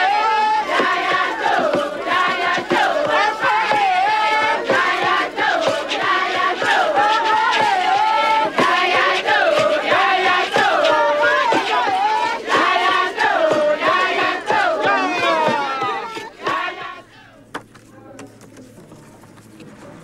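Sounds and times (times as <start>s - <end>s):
crowd singing and chanting: 0.0s - 18.3s.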